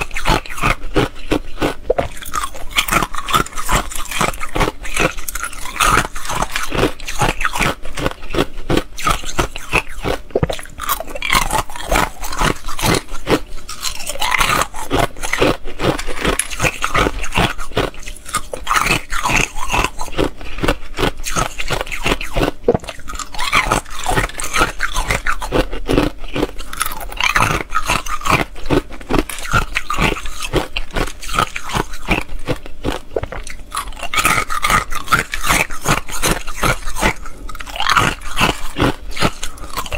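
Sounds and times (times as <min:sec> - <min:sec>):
ice crunched and chewed: 0:00.0 - 0:39.9.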